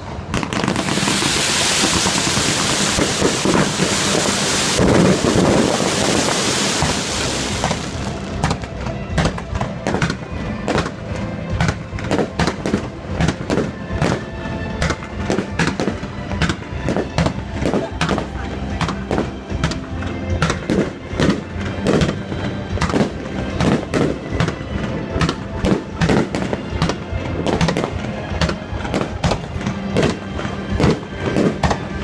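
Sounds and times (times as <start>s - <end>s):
fireworks crackling and popping: 0.0s - 32.0s.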